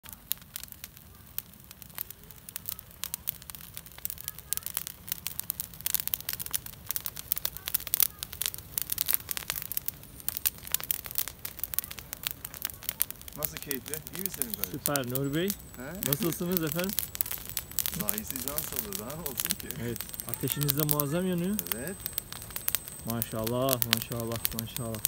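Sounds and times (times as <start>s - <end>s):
brushwood fire crackling and popping: 0.0s - 25.0s.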